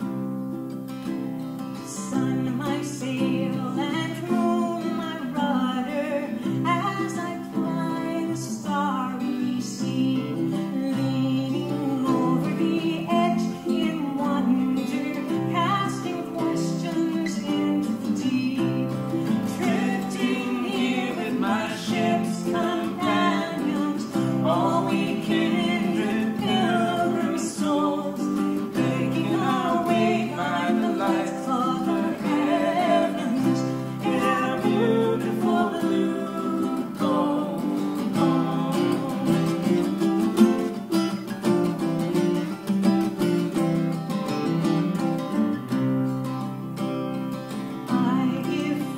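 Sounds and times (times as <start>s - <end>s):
acoustic guitar and ukulele: 0.0s - 48.9s
woman singing: 1.8s - 40.8s, 47.8s - 48.9s.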